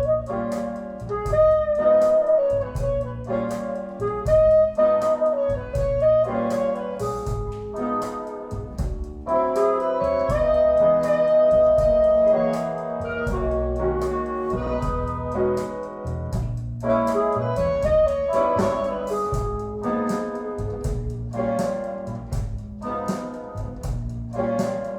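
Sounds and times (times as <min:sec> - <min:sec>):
instrumental jazz music: 0:00.0 - 0:24.9.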